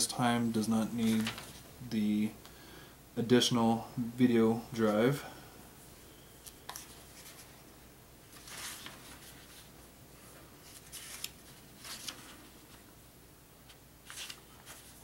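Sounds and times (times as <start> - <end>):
faint rustling and handling: 0.0 - 2.4, 4.3 - 15.0.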